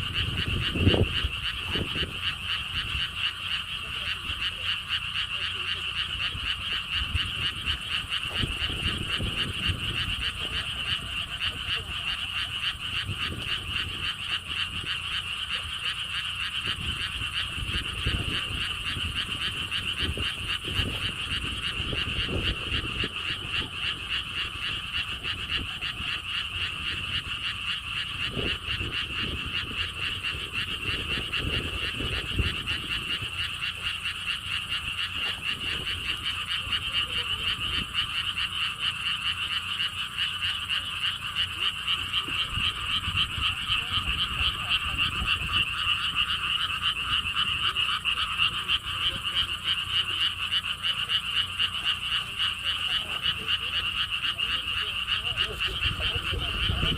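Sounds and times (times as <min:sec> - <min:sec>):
wind buffeting microphone: 0:00.0 - 0:50.4, 0:54.8 - 0:56.9
frogs chorus trilling: 0:00.0 - 0:56.9.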